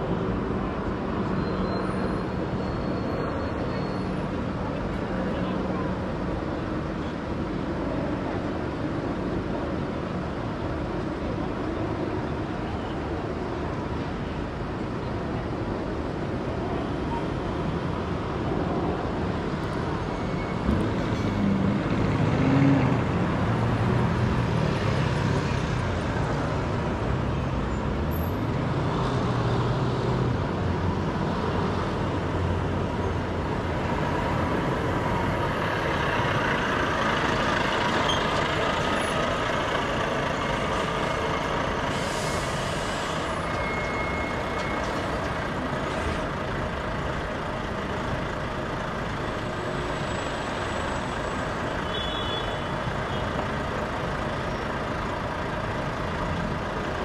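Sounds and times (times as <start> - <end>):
city street traffic: 0.0 - 57.0
heavy vehicle engine rumble: 0.0 - 57.0.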